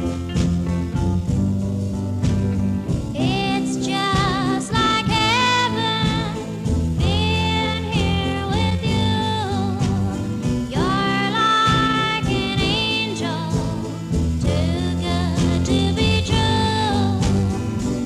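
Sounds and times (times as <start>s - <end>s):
instrumental accompaniment: 0.0s - 18.0s
person singing with vibrato: 3.1s - 18.0s.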